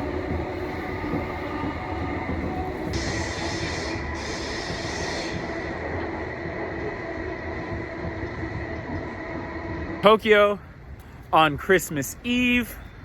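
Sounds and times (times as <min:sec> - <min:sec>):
high hiss: 0:00.0 - 0:12.7
train rumble from inside car: 0:00.0 - 0:13.0.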